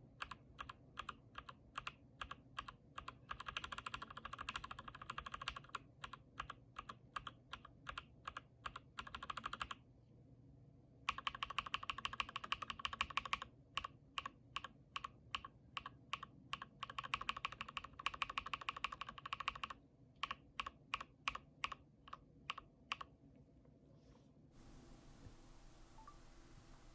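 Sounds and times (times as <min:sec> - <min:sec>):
mechanical keyboard typing: 0:00.2 - 0:09.8, 0:11.1 - 0:23.1.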